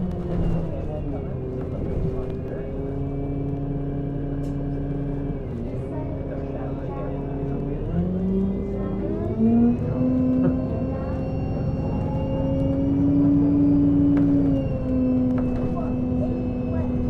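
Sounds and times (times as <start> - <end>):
bus engine whine accelerating: 0.0 - 17.0
low road rumble: 0.0 - 17.0.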